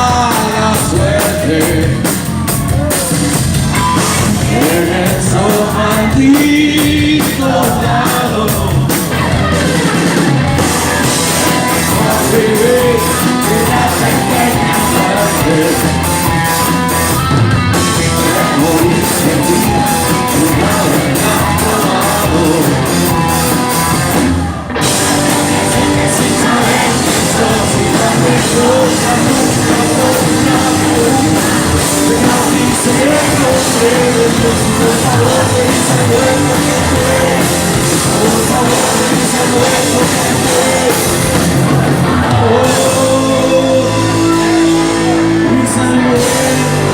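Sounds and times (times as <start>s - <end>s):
rock band playing live: 0.0s - 46.9s
person singing shouted vocals: 4.2s - 23.3s, 25.1s - 46.9s.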